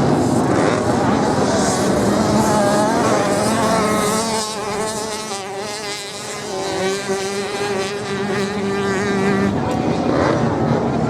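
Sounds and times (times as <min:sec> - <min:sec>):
racing motorcycle engines buzzing: 0:00.0 - 0:11.0.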